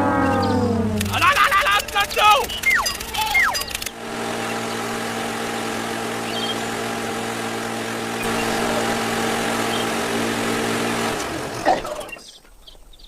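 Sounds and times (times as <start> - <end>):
small motor humming: 0.0 - 12.0.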